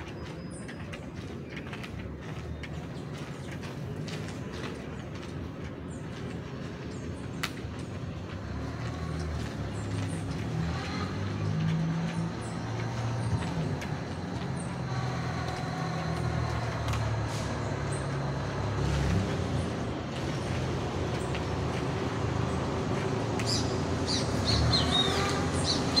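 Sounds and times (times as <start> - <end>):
birds chirping: 0.0 - 26.0
low engine hum: 0.0 - 26.0.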